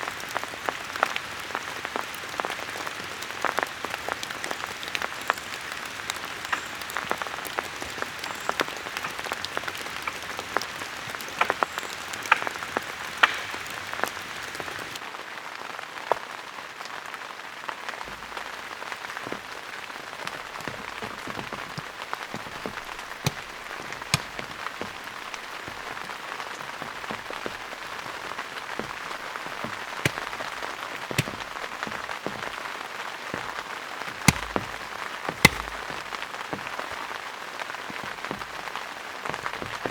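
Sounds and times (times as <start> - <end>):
raindrops ticking close by: 0.0 - 15.4, 16.2 - 39.9
rain falling: 0.0 - 39.9.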